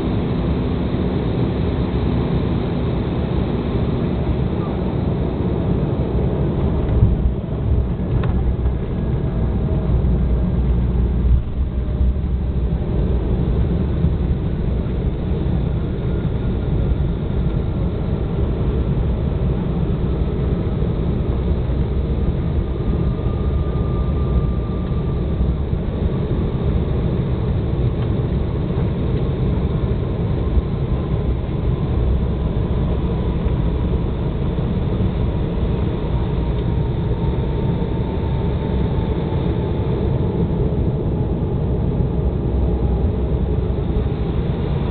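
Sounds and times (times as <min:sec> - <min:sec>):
faint engine whine: 0:00.0 - 0:44.9
low rumble of airflow and engines: 0:00.0 - 0:44.9.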